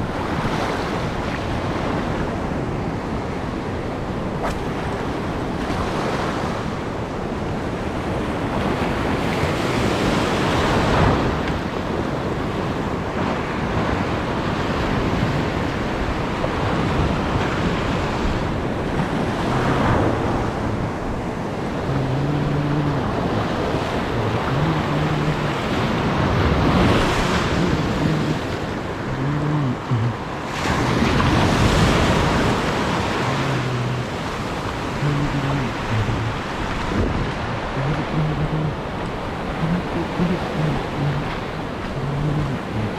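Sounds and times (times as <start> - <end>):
sea waves washing over reef: 0.0 - 42.9
wind buffeting microphone: 0.0 - 42.9.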